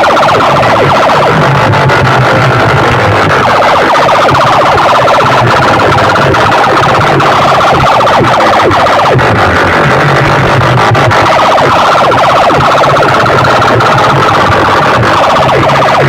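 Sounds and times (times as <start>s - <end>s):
electronic siren effect: 0.0s - 16.0s
pulsing bass: 0.0s - 16.0s.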